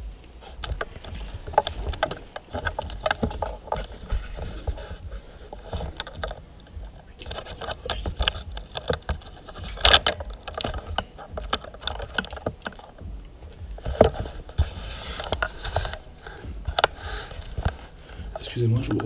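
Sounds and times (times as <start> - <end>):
clicks scrapes and rustles: 0.2 - 19.0.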